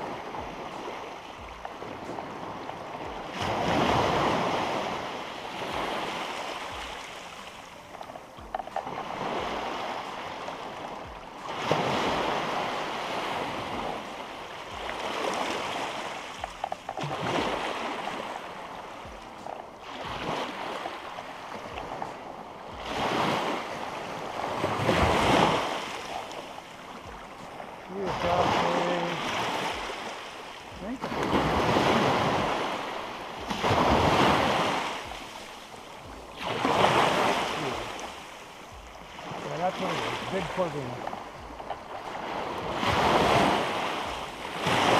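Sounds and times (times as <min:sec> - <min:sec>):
surf washing up sand: 0:00.0 - 0:44.9.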